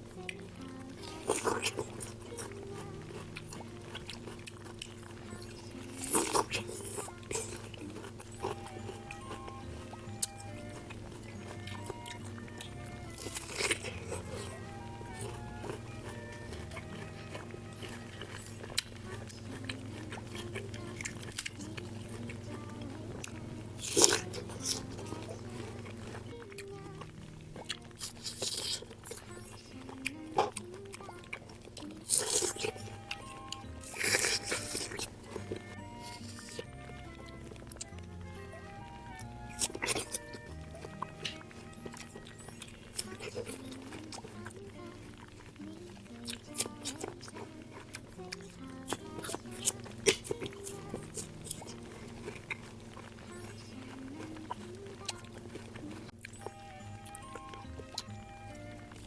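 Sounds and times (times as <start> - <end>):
chewing: 0.0 - 59.0
soft background music: 0.0 - 59.0
person biting crunchy fruit: 1.0 - 26.4, 27.0 - 38.0, 39.1 - 44.5, 45.2 - 58.8.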